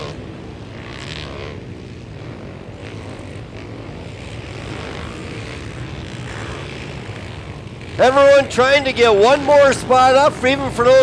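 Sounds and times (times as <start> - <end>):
distant racing quad engines droning: 0.0 - 11.0.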